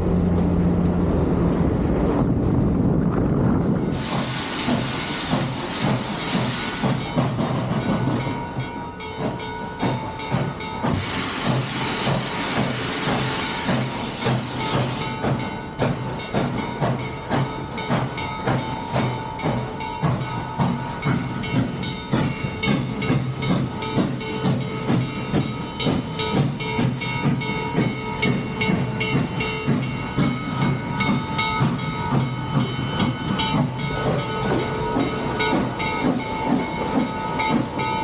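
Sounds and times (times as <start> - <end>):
steam locomotive chuffing: 0.0 - 38.0
steam hissing: 3.8 - 8.2, 9.8 - 38.0.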